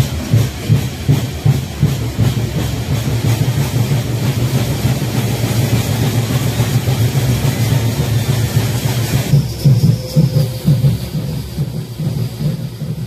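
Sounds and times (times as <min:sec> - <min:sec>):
drums playing fast rhythm: 0:00.0 - 0:13.0.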